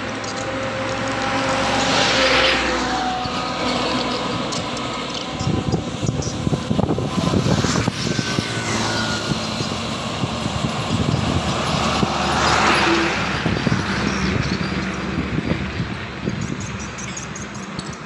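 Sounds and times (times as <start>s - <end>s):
trucks passing on road: 0.0s - 18.0s.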